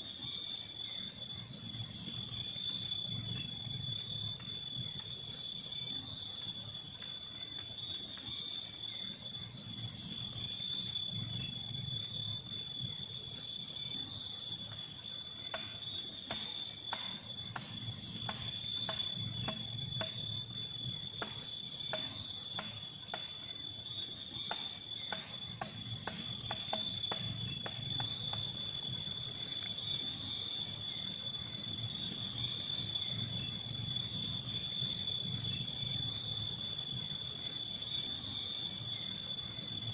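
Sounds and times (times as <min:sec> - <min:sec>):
forest insects chorus: 0:00.0 - 0:39.9.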